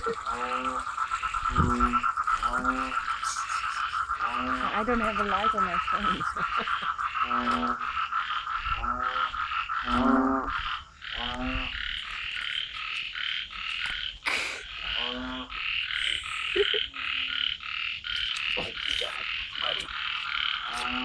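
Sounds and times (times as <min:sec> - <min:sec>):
chorus of frogs and insects: 0:00.0 - 0:21.0
frog croaking: 0:00.0 - 0:21.0.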